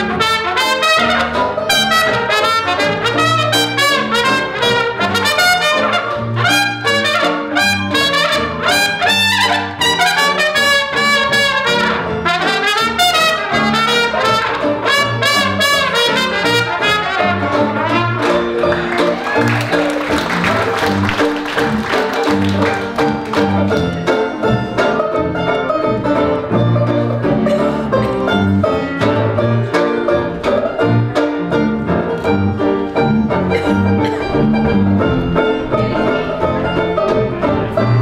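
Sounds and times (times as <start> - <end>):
band rhythm section: 0.0 - 38.0
cornet jazz solo: 0.0 - 38.0
walking string bass: 0.0 - 38.0.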